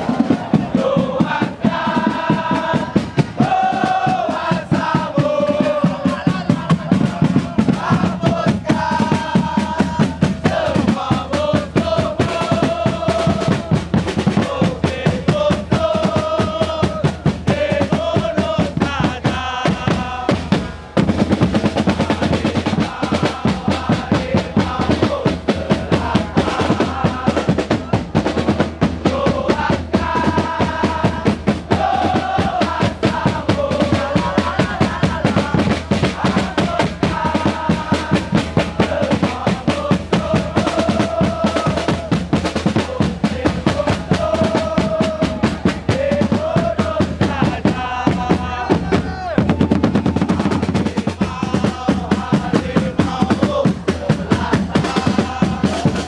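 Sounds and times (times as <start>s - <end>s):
crowd singing a chant: 0.0s - 56.0s
snare and bass drums: 0.0s - 56.0s.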